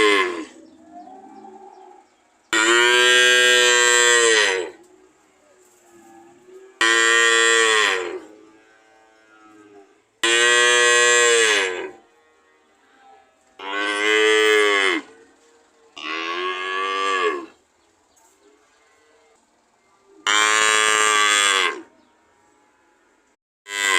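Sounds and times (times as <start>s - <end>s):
cattle mooing: 0.0s - 17.6s, 20.2s - 23.9s.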